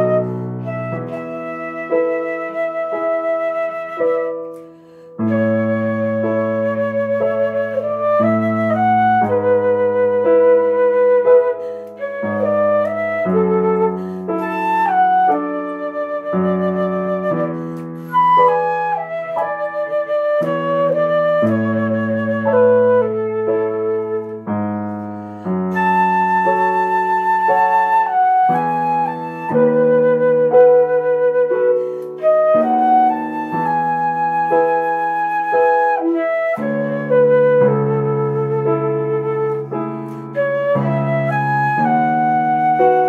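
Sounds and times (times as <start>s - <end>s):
digital piano chords and bass: 0.0s - 43.0s
flute playing slow melody: 0.0s - 43.0s.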